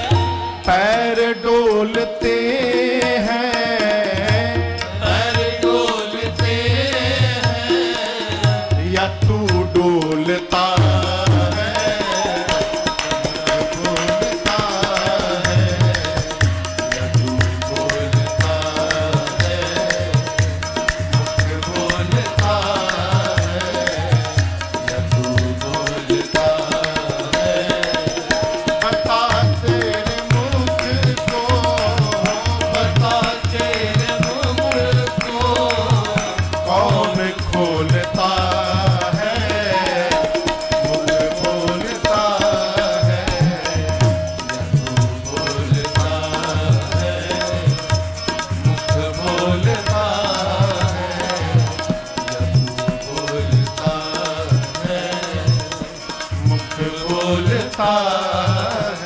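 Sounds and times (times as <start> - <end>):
hand drum rhythm: 1.7 - 59.0.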